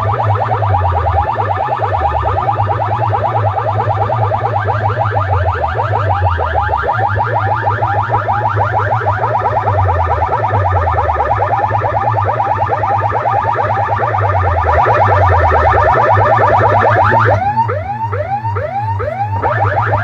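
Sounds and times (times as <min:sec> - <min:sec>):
heavy bass: 0:00.0 - 0:20.0
rapid rising alarm chirps: 0:00.0 - 0:20.0.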